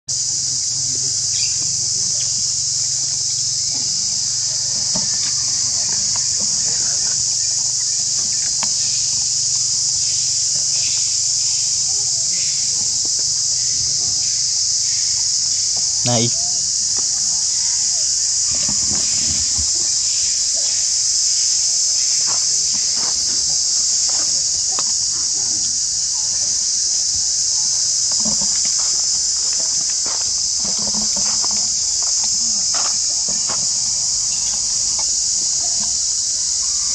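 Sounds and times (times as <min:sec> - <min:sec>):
high-pitched insect chorus: 0:00.1 - 0:36.9.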